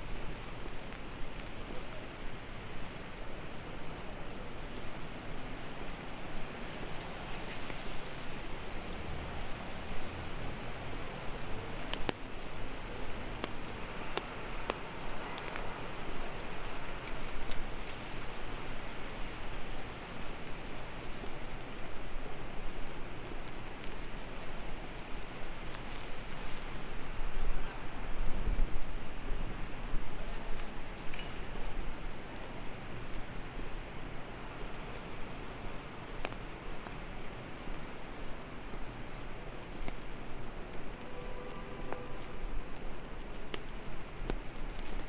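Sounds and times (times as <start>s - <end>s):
rain hissing on pavement: 0.0s - 45.0s
raindrops ticking on umbrella: 0.0s - 45.0s.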